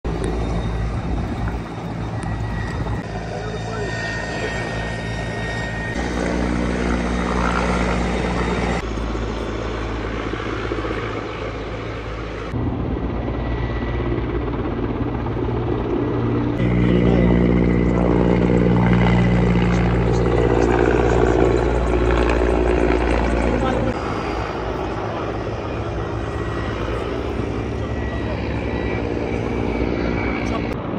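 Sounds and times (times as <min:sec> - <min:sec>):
helicopter rotor and engine: 0:00.1 - 0:30.9.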